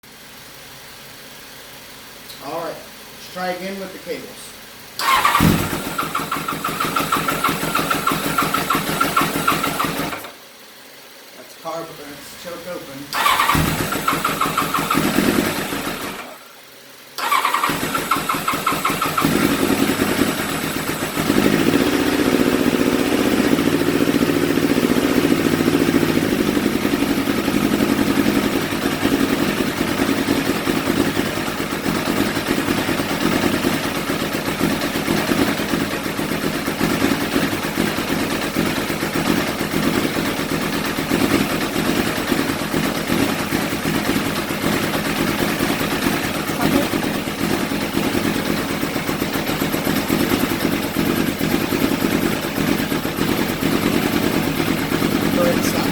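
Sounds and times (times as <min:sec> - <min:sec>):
engine starting and idling roughly: 0:05.0 - 0:10.4, 0:13.0 - 0:16.5, 0:17.2 - 0:55.9.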